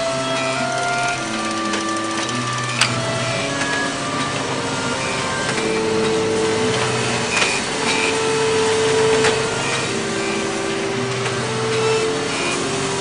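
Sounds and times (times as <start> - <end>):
humming machine tones: 0.0 - 13.0
machines hissing: 0.0 - 13.0.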